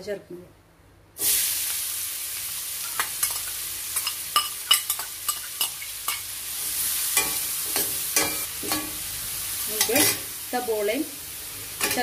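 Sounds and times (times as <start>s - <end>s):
onions sizzling in oil: 1.2s - 12.0s.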